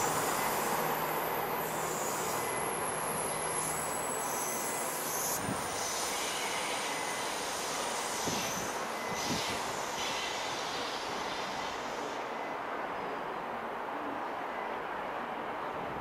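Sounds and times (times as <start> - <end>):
train rumbling: 0.0 - 12.8.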